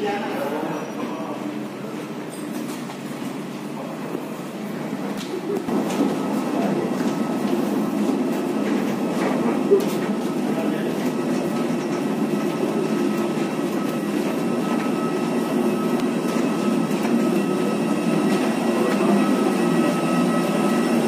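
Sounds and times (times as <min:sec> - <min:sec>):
mechanical drone with high whine: 0:04.1 - 0:21.0.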